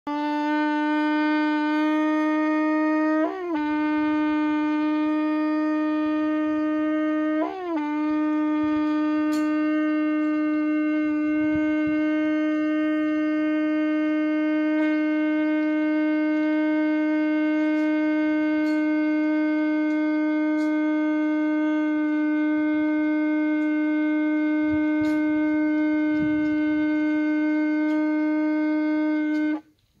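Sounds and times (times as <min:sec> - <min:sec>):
horn blown in long note: 0:00.0 - 0:30.0.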